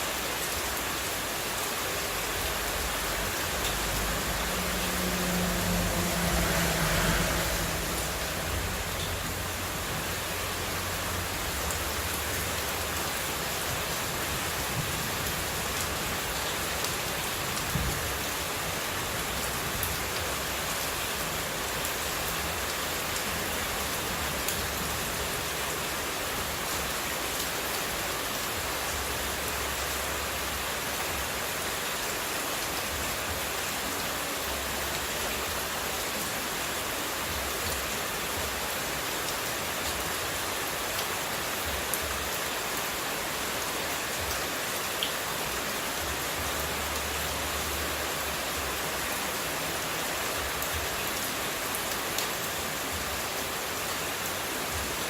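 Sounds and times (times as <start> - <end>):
running water white noise: 0.0 - 55.0.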